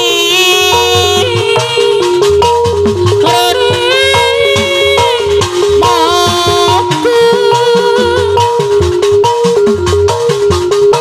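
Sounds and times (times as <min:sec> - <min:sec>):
electronic keyboard melody: 0:00.0 - 0:11.0
hand drums with sliding pitch: 0:00.0 - 0:11.0.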